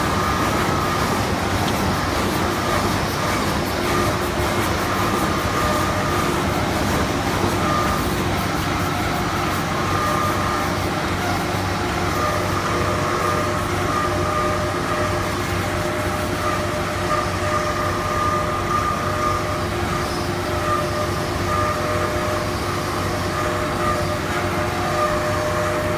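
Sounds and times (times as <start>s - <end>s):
steady machine whine: 0.0s - 25.9s.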